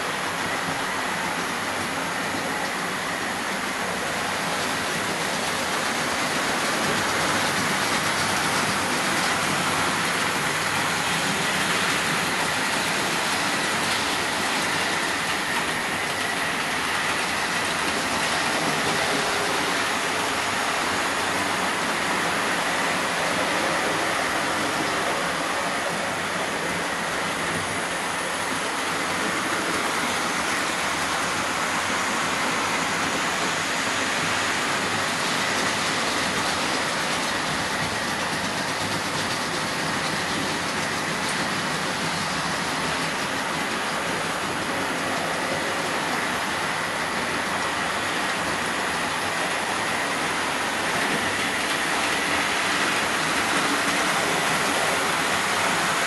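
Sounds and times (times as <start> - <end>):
model train motors whirring: 0.0 - 56.0.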